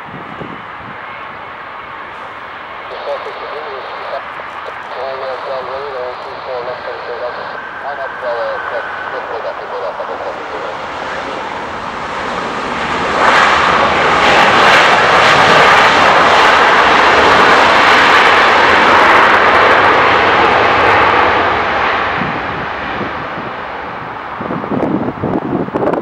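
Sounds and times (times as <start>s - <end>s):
jet engines reverse thrust roar: 0.0s - 26.0s.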